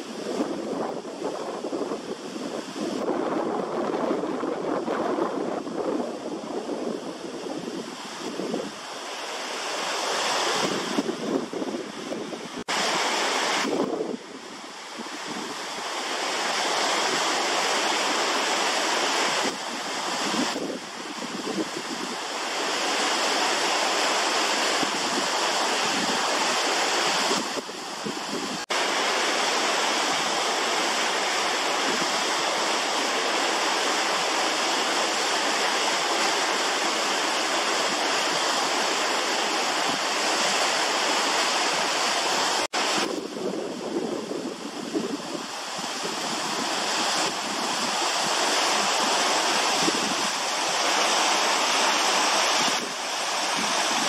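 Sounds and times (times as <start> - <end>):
waterfall pouring over rock: 4.4 - 54.0.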